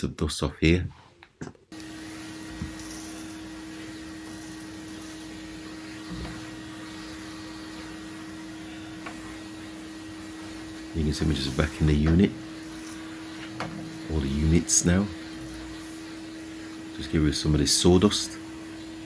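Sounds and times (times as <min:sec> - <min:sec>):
vacuum cleaner humming: 0:01.7 - 0:19.0.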